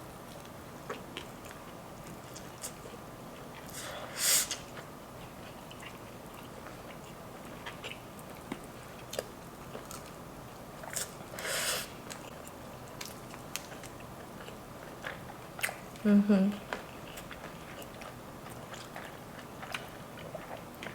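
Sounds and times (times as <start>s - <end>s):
close chewing with wet clicks: 0.2s - 3.7s, 4.5s - 11.3s, 12.0s - 20.9s.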